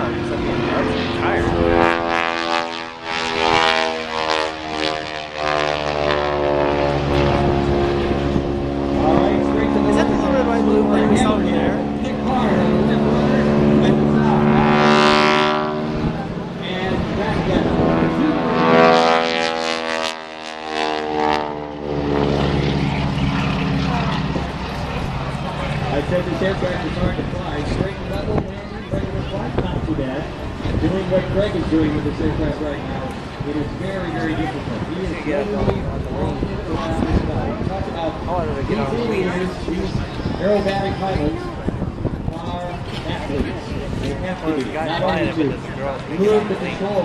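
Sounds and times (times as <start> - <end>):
biplane engine droning: 0.0 - 47.0
propeller airplane passing by: 0.0 - 47.0.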